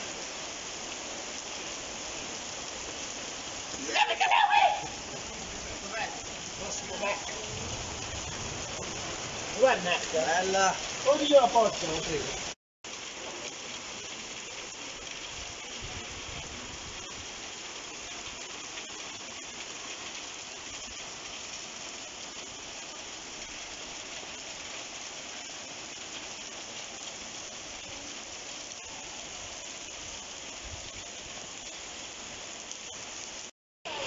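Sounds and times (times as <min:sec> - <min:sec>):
heavy rain on stone street: 0:00.0 - 0:34.0.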